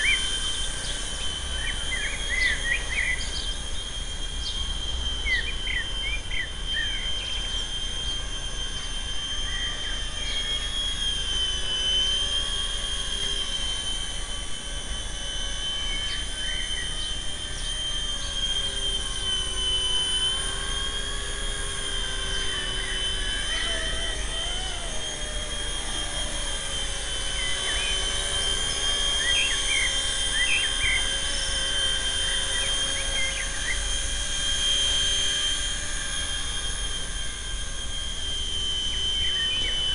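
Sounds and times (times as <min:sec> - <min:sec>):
toy helicopter rotor whine: 0:00.0 - 0:39.9.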